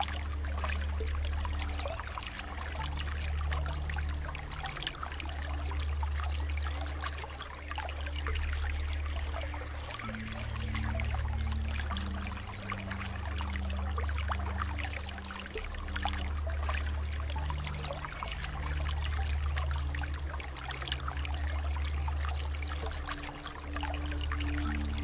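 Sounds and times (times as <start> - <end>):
water trickling and pouring: 0.0 - 25.0.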